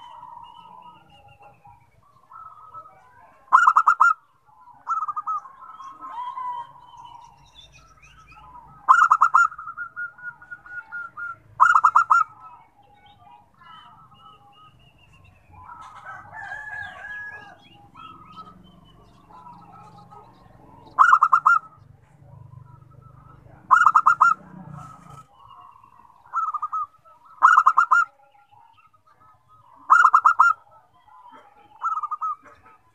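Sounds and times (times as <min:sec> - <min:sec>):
dove cooing: 0:00.0 - 0:32.9
other birds chirping: 0:00.0 - 0:32.9.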